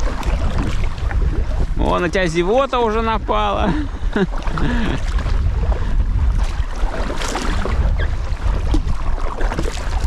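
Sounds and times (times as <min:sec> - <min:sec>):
water lapping against a raft: 0:00.0 - 0:10.0
wind buffeting microphone: 0:00.0 - 0:10.0.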